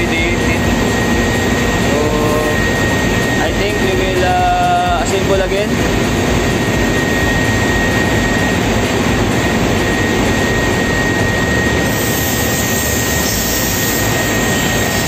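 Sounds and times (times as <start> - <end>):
high whine: 0.0 - 15.0
machinery drone: 0.0 - 15.0.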